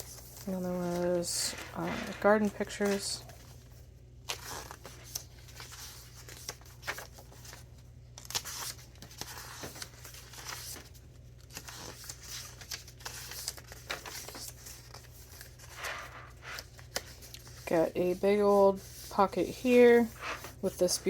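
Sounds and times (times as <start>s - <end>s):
paper pages rustling: 0.0s - 21.0s.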